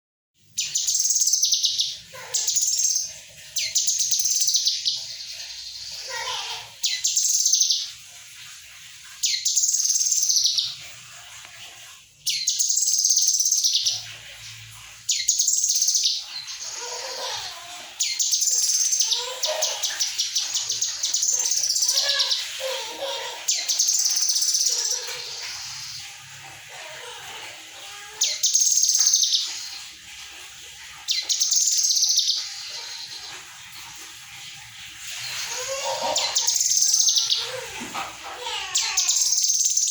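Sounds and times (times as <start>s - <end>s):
bird song: 0.4s - 8.0s, 9.0s - 11.0s, 12.2s - 26.2s, 27.1s - 30.0s, 30.9s - 34.0s, 35.2s - 39.9s.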